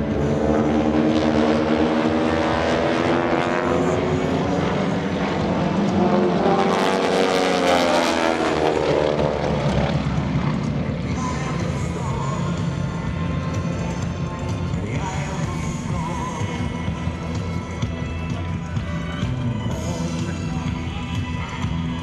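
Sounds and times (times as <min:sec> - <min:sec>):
propeller planes droning overhead: 0:00.0 - 0:22.0.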